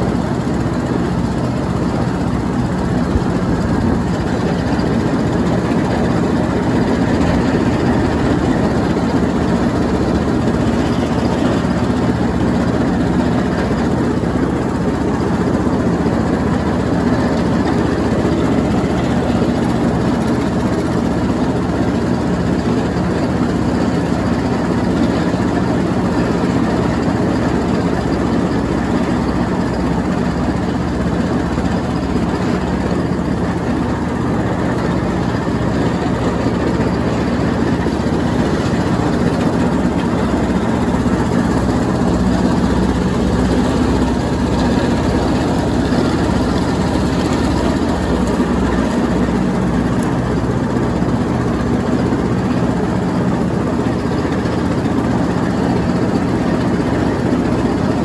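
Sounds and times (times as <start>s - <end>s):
mower shredding leaves: 0.0s - 58.0s
riding lawnmower running: 0.0s - 58.0s.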